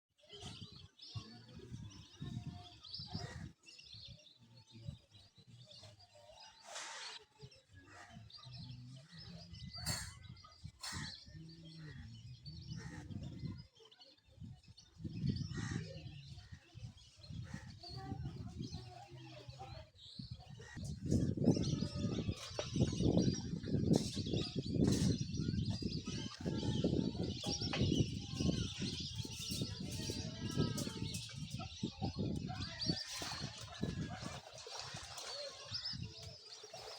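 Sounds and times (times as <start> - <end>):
birds chirping: 0.3 - 36.9.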